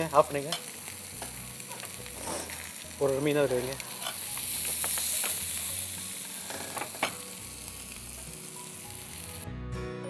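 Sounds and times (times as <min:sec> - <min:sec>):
fish sizzling in hot oil: 0:00.0 - 0:09.4
background music: 0:00.0 - 0:10.0.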